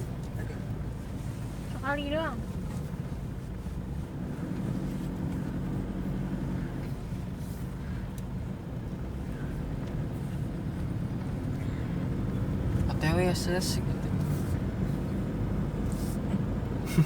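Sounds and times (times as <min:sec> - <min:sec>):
diesel engine running in car: 0:00.0 - 0:17.0
road noise: 0:00.0 - 0:17.0.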